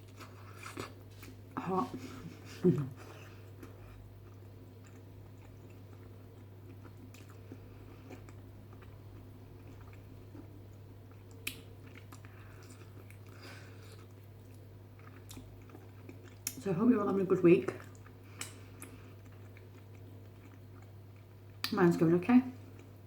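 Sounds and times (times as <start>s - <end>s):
person chewing: 0.0s - 16.6s, 17.8s - 21.7s
steady low hum: 0.0s - 23.0s.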